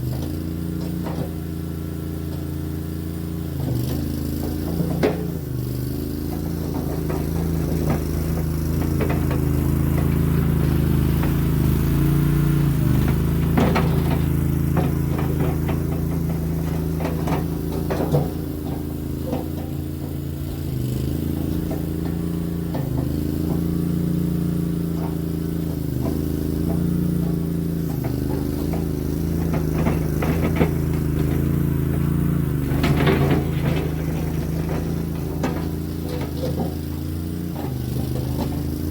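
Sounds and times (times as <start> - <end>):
metal clanks and knocks: 0.0 - 2.7, 3.6 - 38.9
skid steer engine running: 0.0 - 38.9.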